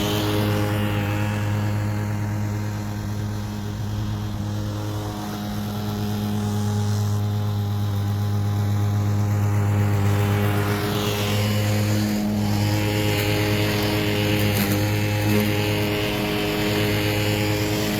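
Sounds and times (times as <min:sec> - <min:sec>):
lawn mower engine running: 0:00.0 - 0:17.9.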